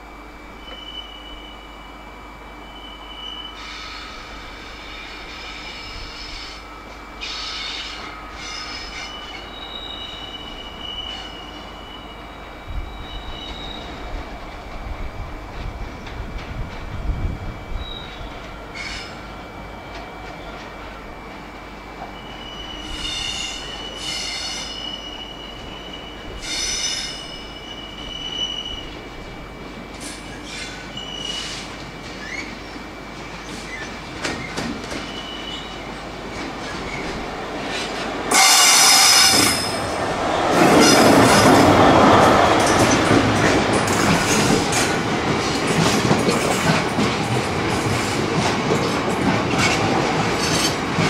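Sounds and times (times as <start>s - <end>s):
train wheels squealing on track: 0.4s - 14.7s, 15.6s - 51.0s.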